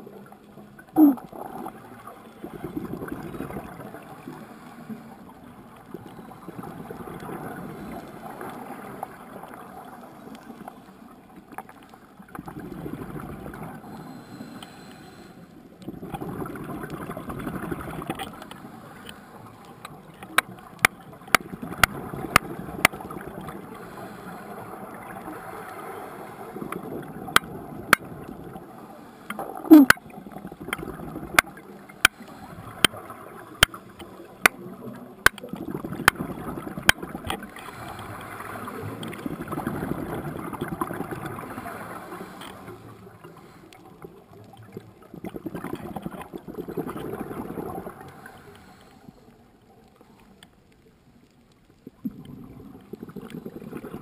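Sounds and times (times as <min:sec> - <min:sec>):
underwater air bubbling: 0:00.0 - 0:11.4, 0:12.2 - 0:50.4, 0:51.8 - 0:54.0.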